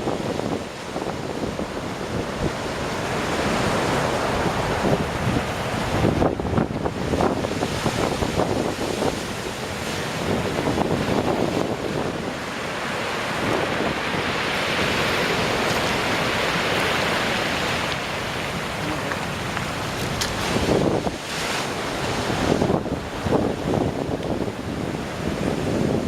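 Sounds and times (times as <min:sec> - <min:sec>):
waves crashing on rocky shore: 0:00.0 - 0:26.0.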